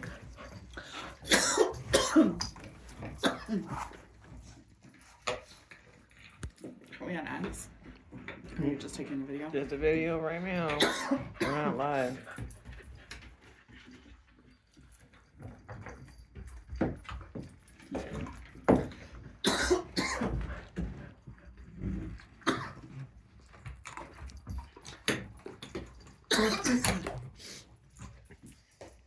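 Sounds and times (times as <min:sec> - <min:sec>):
dogs scuffling: 0:00.0 - 0:29.0.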